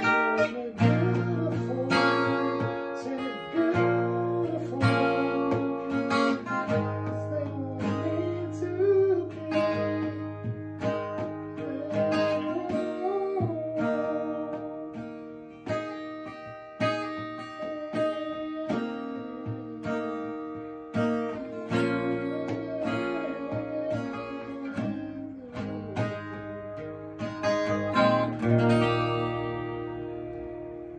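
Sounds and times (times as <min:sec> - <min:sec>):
acoustic guitar strumming chords: 0:00.0 - 0:30.9.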